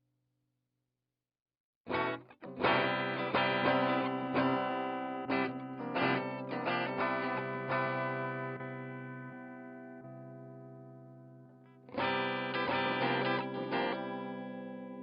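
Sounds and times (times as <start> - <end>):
electric guitar chords and notes: 1.9 - 15.0.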